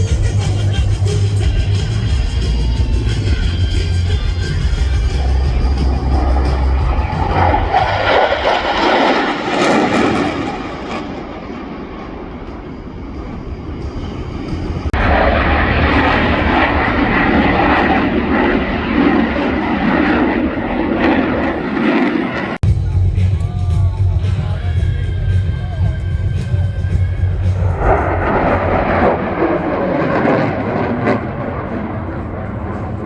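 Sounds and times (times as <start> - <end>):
jet engine roar: 0.0 - 33.0.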